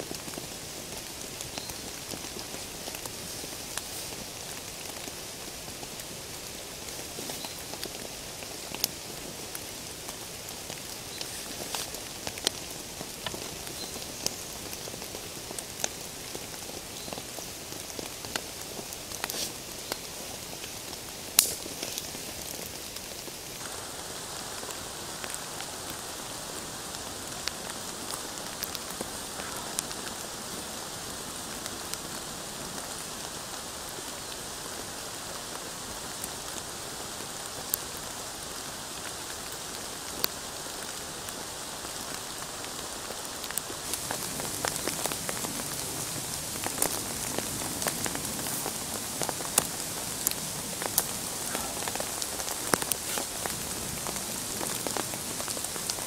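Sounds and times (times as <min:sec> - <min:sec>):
campfire crackling and popping: 0:00.0 - 0:56.0
steady rain falling: 0:00.0 - 0:56.0.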